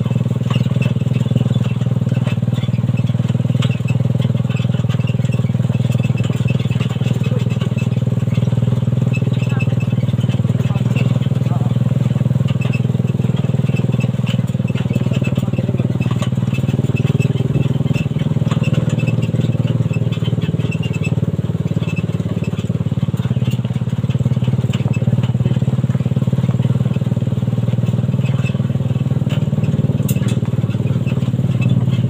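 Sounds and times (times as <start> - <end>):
light rattles and clicks: 0.0 - 32.0
motorcycle engine running: 0.0 - 32.0.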